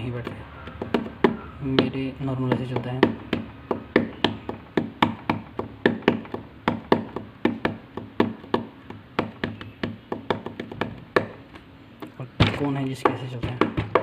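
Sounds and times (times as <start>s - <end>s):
hands tapping on a tabletop: 0.2s - 11.7s, 12.4s - 14.0s.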